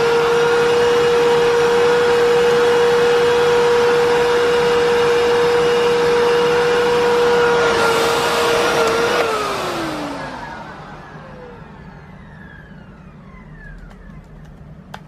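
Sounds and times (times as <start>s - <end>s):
vacuum motor whining: 0.0s - 15.0s.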